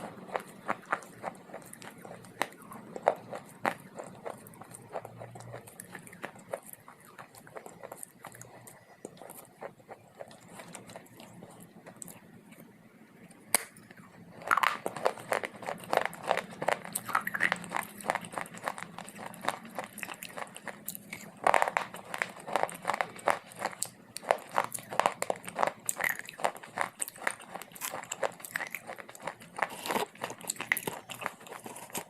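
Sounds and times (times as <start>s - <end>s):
chewing hard dry clay: 0.0s - 12.8s, 13.6s - 32.0s.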